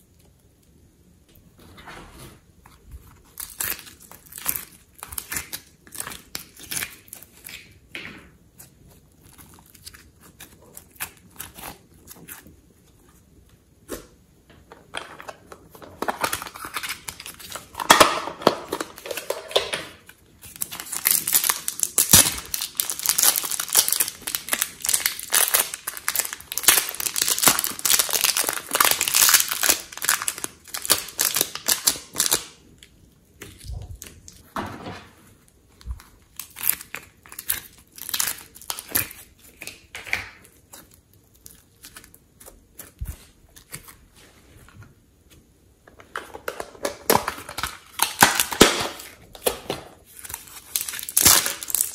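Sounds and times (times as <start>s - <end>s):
plastic wrapper crinkling and tearing: 3.0s - 7.8s, 8.6s - 12.6s, 14.9s - 34.5s, 35.8s - 44.1s, 46.1s - 51.9s.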